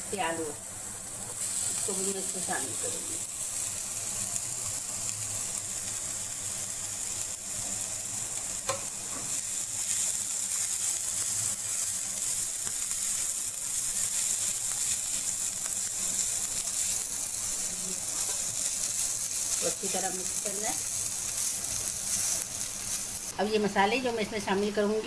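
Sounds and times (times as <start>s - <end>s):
potatoes sizzling in hot oil: 0.0s - 25.0s.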